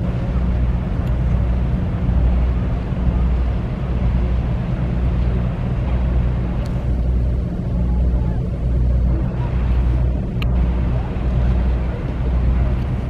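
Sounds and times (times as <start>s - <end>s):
ship diesel engines droning: 0.0s - 13.0s.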